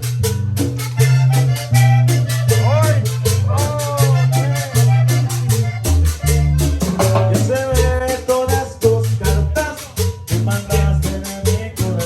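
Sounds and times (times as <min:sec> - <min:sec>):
accordion music: 0:00.0 - 0:12.0
shaker percussion: 0:00.0 - 0:12.0.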